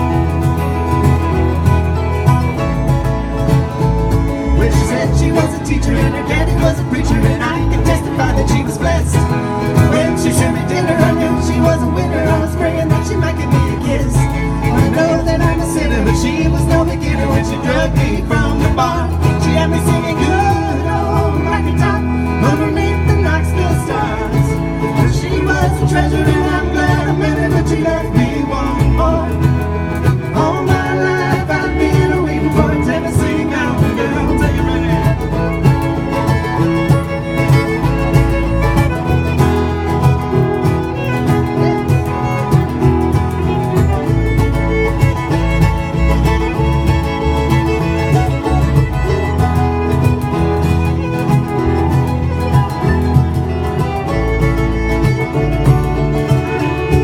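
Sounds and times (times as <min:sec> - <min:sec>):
banjo: 0:00.0 - 0:57.0
bass line: 0:00.0 - 0:57.0
fiddle: 0:00.0 - 0:57.0
guitar: 0:00.0 - 0:57.0
string band playing bluegrass: 0:00.0 - 0:57.0.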